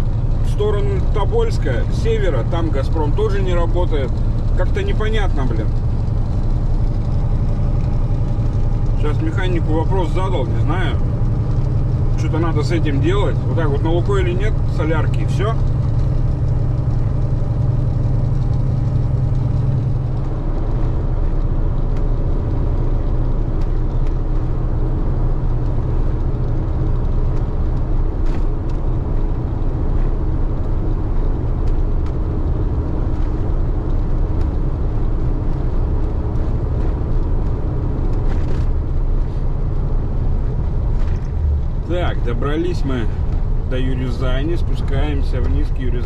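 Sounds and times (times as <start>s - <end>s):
truck diesel engine running: 0.0s - 46.0s
tyre and road noise: 0.0s - 46.0s.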